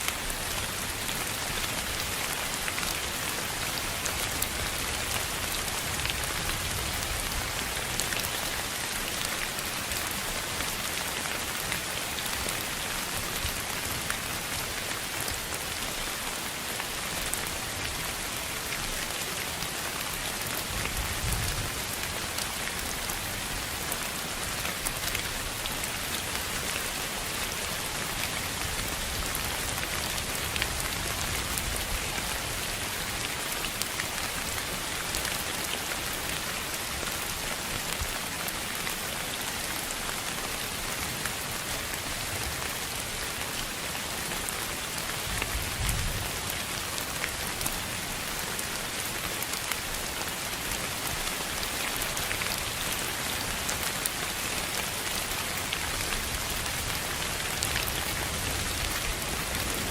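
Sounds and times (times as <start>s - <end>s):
rain-like hiss with ticks: 0.0s - 59.9s.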